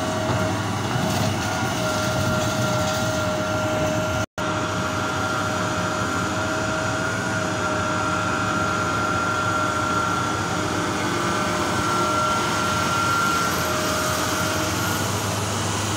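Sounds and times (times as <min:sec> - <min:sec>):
heavy machinery drone: 0:00.0 - 0:15.9.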